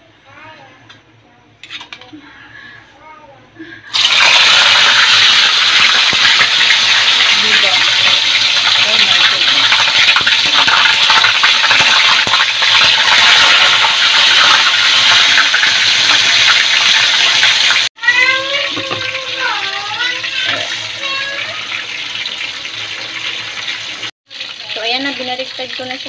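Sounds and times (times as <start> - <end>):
fish sizzling in hot oil: 3.9 - 26.0.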